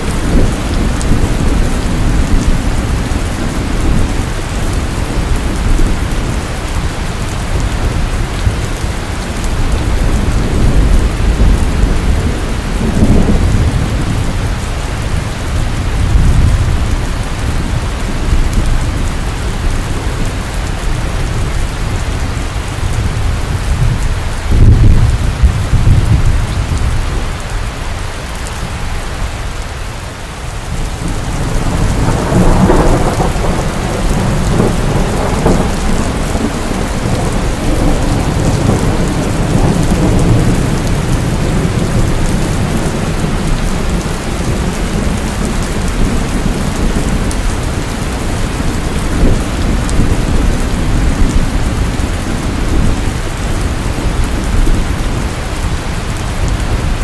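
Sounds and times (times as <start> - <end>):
rolling thunder: 0.0 - 27.4, 30.5 - 57.0
steady rain: 0.0 - 57.0.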